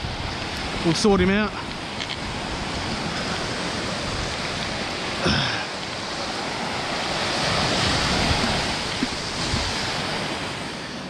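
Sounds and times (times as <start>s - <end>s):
surf washing onto beach: 0.0s - 11.0s
wind on microphone: 0.0s - 11.0s.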